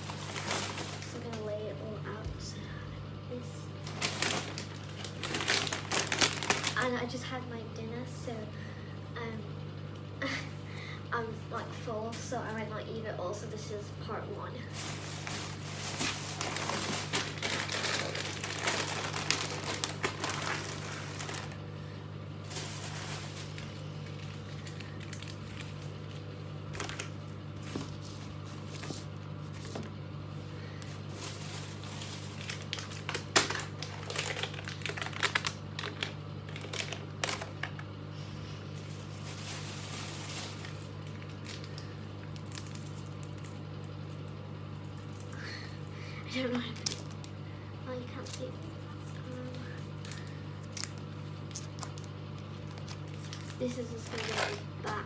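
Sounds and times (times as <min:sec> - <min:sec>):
plastic wrappers crinkling: 0:00.0 - 0:02.2, 0:03.5 - 0:07.2, 0:14.6 - 0:29.9, 0:30.6 - 0:45.9, 0:46.5 - 0:47.3, 0:48.1 - 0:55.0
steady low hum: 0:00.0 - 0:55.0.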